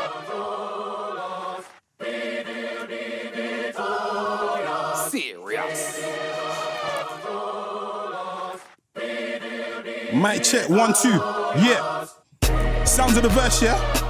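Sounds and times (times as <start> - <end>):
held choir-like chords: 0.0 - 14.0.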